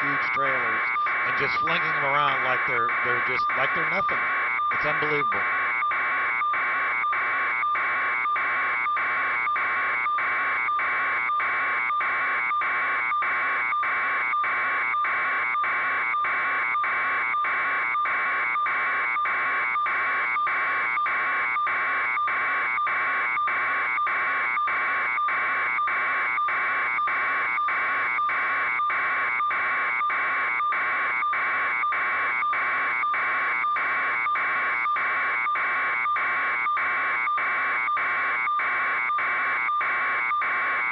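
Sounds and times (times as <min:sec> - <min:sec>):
pulsing electronic alarm buzz: 0:00.0 - 0:40.9.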